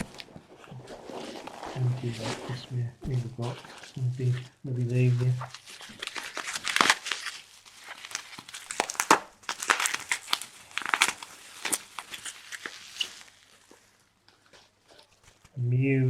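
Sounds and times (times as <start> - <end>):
packaging crinkling and rustling: 0.0 - 15.6.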